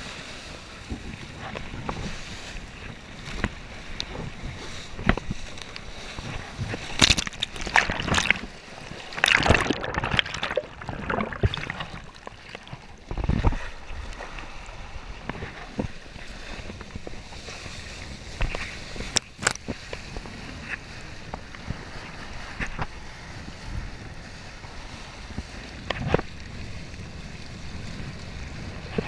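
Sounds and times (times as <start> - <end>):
water sloshing and splashing: 0.0 - 23.2, 24.8 - 29.0.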